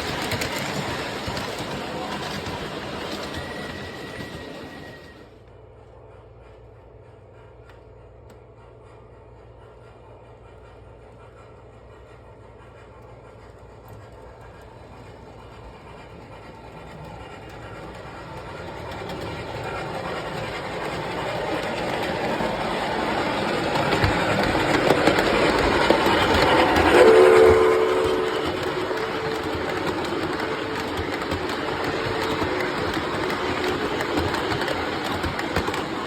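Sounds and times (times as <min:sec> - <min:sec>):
model train running on track: 0:00.0 - 0:36.0.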